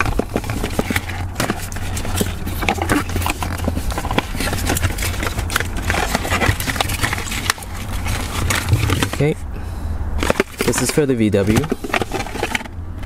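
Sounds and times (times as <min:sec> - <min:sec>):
cardboard box handling: 0:00.0 - 0:09.3, 0:10.2 - 0:12.8
steady low hum: 0:00.0 - 0:13.0.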